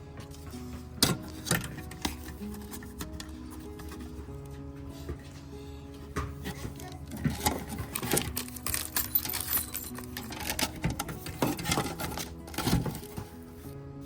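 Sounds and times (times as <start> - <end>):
hard parts clicking and clattering: 0.0 - 14.0
quiet background music: 0.0 - 14.0.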